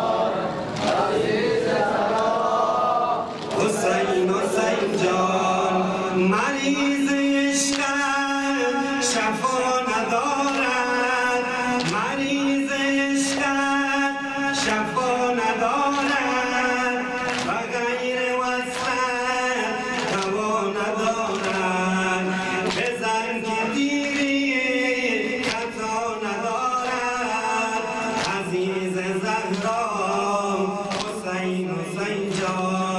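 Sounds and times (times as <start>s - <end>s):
man chanting into a microphone: 2.7s - 32.9s.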